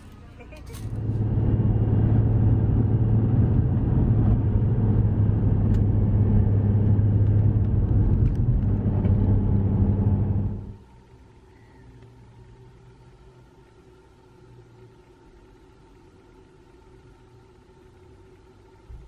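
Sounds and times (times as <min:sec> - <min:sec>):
car engine and tyre drone: 0:00.0 - 0:18.7.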